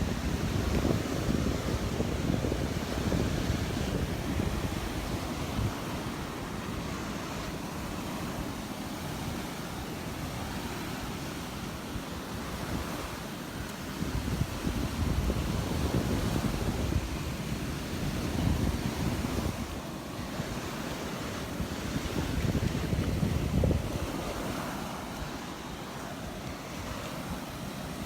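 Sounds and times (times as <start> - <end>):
surf washing ashore: 0.0 - 28.0
wind buffeting microphone: 0.0 - 28.0.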